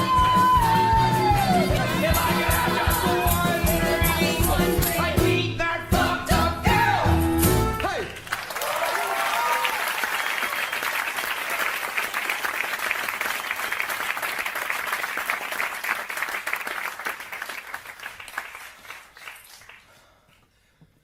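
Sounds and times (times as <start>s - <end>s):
audience applauding and cheering: 0.0s - 4.5s, 7.4s - 19.9s.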